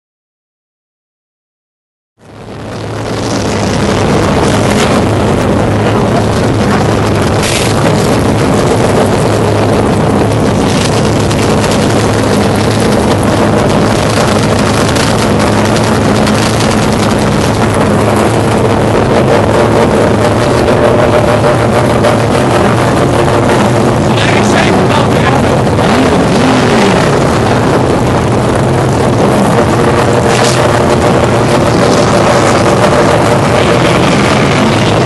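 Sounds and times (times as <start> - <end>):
race car engine idling: 2.4 - 35.0.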